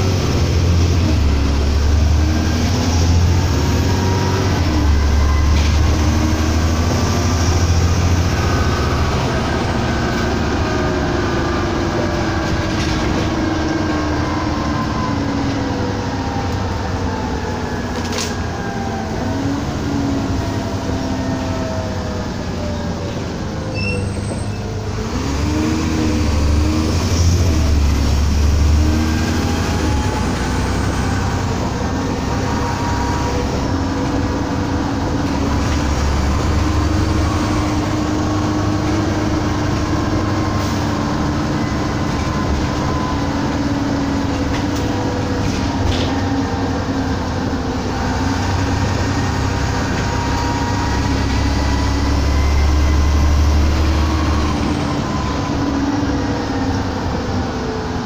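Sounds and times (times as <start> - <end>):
bus engine whine: 0.0 - 58.0
road noise: 0.0 - 58.0.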